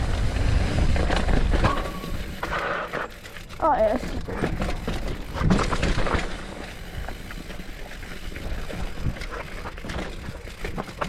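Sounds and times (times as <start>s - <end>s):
bike drivetrain rattle: 0.0s - 11.0s
bike tyre rumble: 0.0s - 11.0s.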